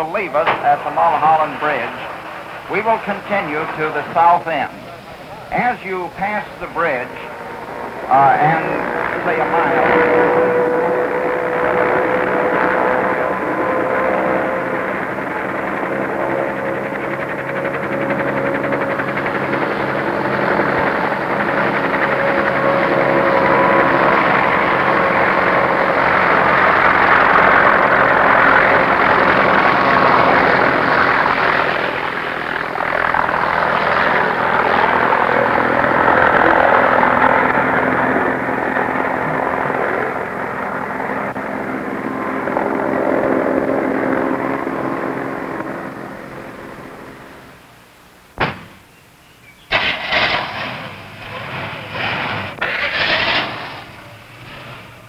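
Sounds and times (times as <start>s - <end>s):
helicopter engine and rotor: 0.0s - 48.0s.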